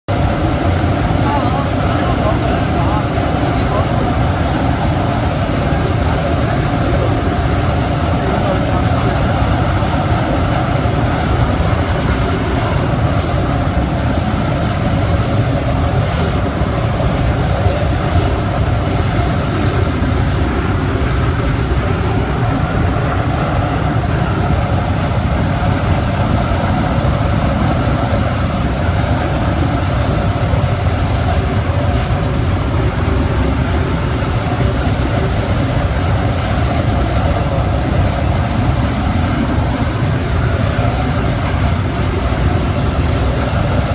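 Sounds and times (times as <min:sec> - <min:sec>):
pellet burner rumbling: 0:00.1 - 0:43.9.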